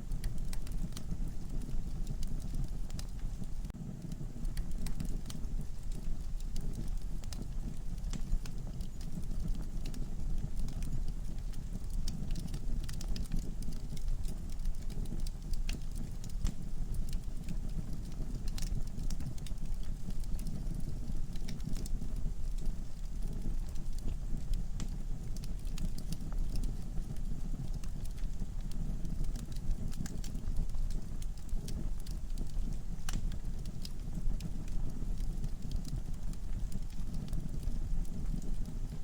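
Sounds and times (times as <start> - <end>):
fire flames rumbling: 0.0 - 39.0
logs crackling and popping: 0.0 - 39.0.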